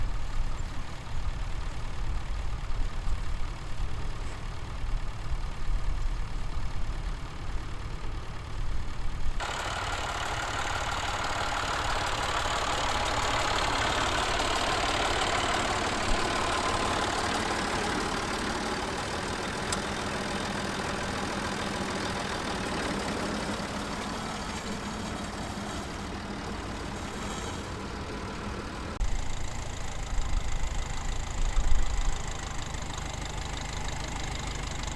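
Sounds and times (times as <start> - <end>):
tractor engines running: 0.0 - 34.9.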